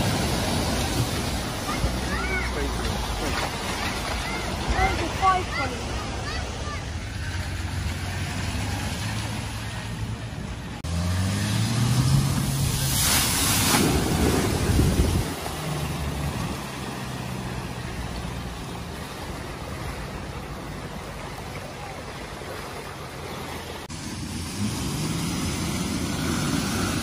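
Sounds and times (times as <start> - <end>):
loud water splash: 0.0 - 9.9, 10.9 - 21.1, 21.9 - 27.0
water washing around: 0.0 - 27.0.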